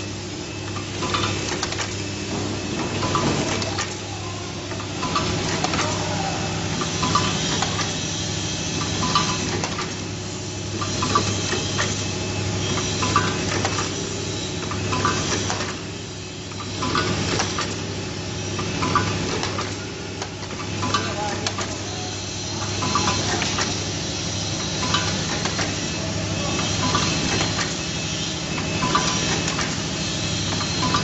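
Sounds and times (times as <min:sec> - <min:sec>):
pneumatic cylinders clacking: 0:00.6 - 0:31.0.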